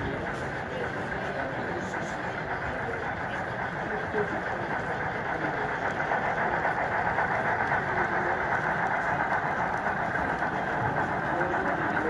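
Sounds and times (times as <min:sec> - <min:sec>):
crowd voices: 0:00.0 - 0:12.0
machinery: 0:00.0 - 0:12.0.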